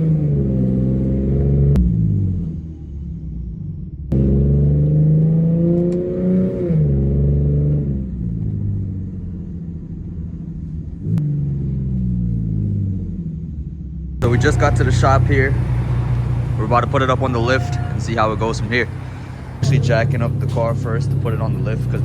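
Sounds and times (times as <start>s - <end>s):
car exhaust accelerating: 0.0s - 22.0s.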